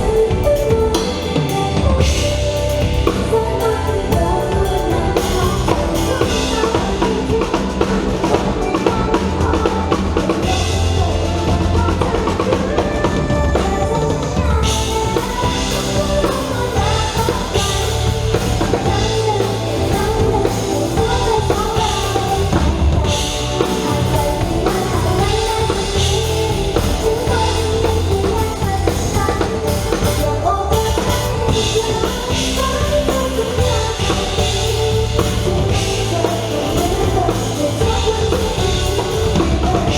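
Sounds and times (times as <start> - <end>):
drum kit steady beat: 0.0 - 39.9
live band playing pop-rock: 0.0 - 39.9.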